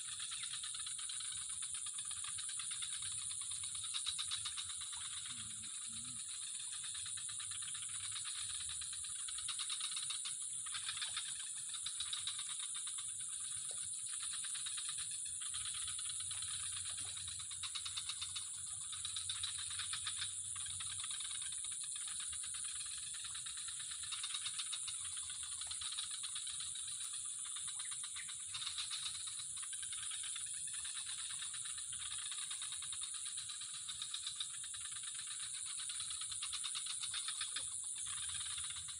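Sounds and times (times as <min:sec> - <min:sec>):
insects or frogs chorus: 0:00.0 - 0:38.9.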